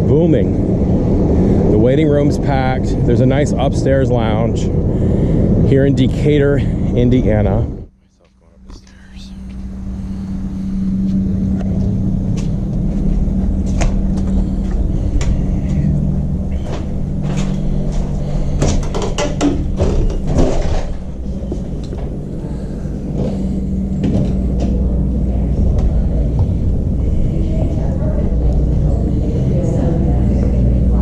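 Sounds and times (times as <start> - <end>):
low rumble and hum: 0.0 - 31.0.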